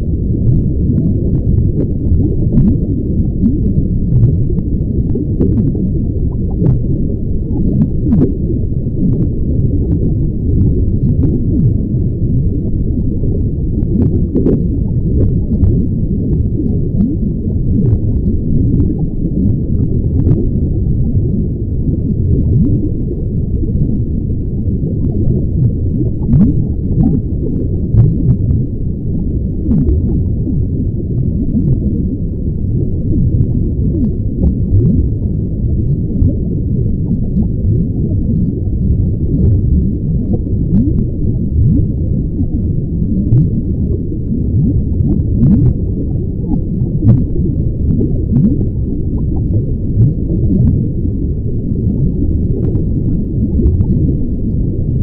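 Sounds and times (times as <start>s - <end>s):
muffled gurgling of drinking: 0.0s - 55.0s
water gulping and glugging: 0.0s - 55.0s.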